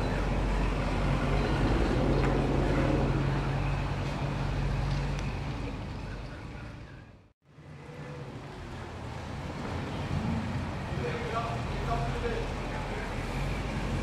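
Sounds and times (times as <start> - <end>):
car engine pulling away: 0.0 - 6.2, 7.7 - 14.0.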